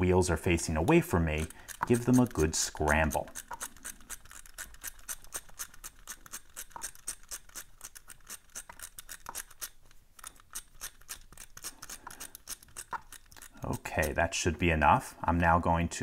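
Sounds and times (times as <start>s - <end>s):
padlock number wheels clicking: 0.5s - 14.3s.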